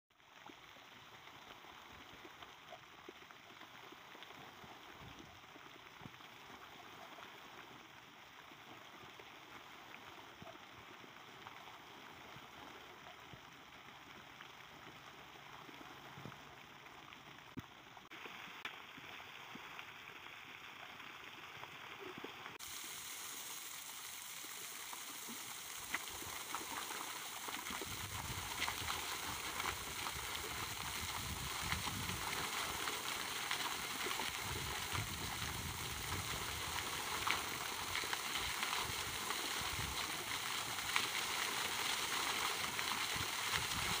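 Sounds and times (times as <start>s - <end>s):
fountain spray splashing: 0.2s - 44.0s.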